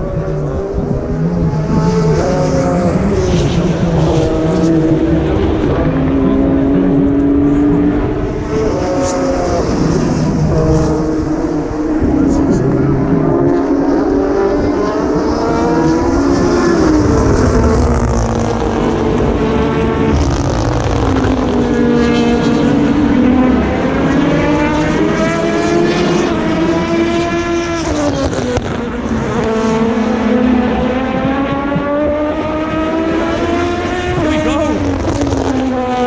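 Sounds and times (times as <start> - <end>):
race cars passing: 0.0 - 36.0.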